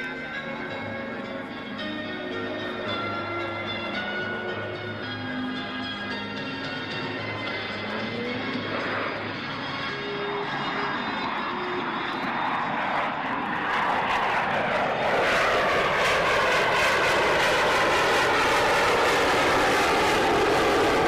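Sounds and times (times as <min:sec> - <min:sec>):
military jet flying past: 0:02.4 - 0:21.0.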